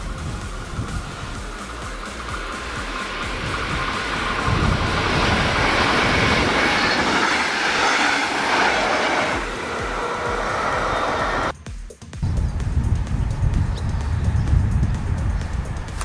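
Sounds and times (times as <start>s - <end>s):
train wheel and rail noise: 0.0s - 11.6s, 12.2s - 16.0s.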